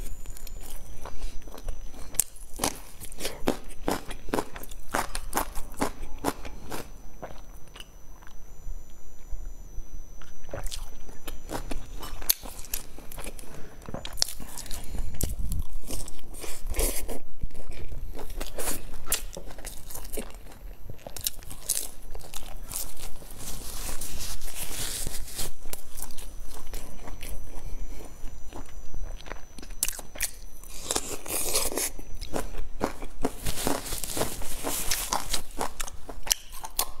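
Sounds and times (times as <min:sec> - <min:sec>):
chewing crispy food: 0:00.0 - 0:08.4, 0:10.2 - 0:37.0.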